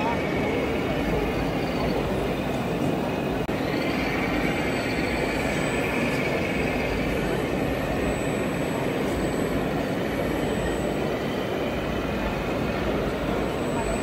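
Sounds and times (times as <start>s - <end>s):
crowd noise: 0.0s - 14.0s.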